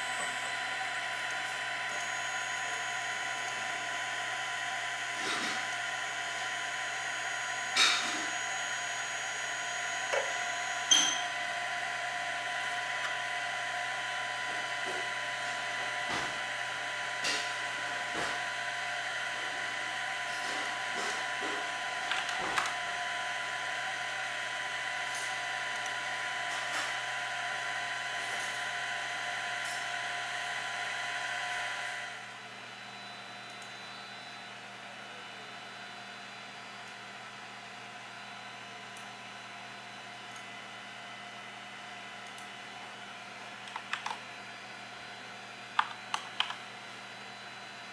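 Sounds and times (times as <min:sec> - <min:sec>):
printer mechanical whine: 0:00.0 - 0:47.9.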